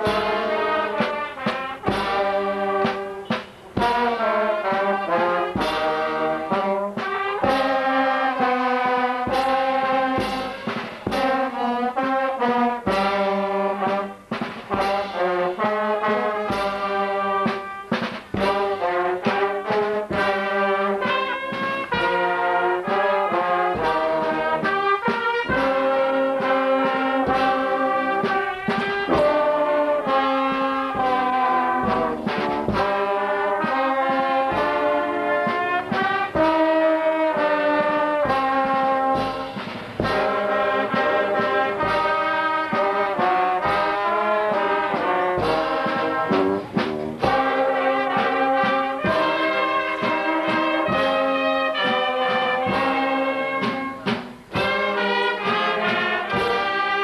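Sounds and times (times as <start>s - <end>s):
brass band playing chords: 0.0s - 57.0s.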